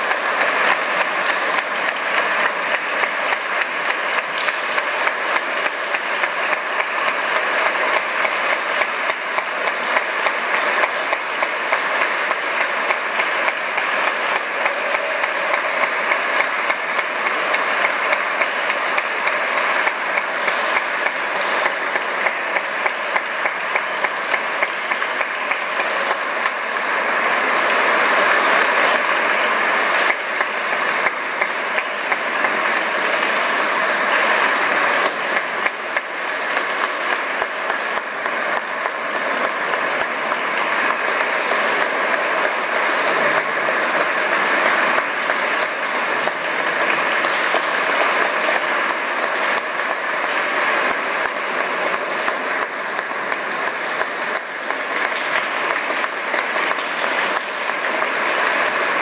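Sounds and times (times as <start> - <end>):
audience applauding: 0.0 - 59.0
person clapping nearby: 0.0 - 59.0.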